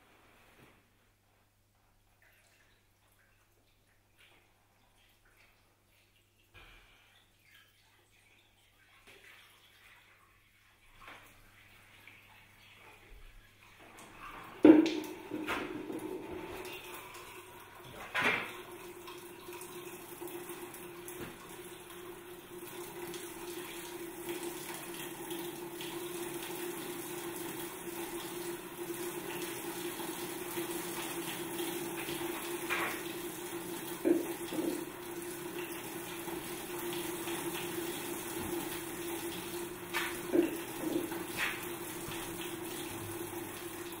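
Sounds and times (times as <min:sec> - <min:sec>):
water splashing and trickling: 0:02.1 - 0:44.0.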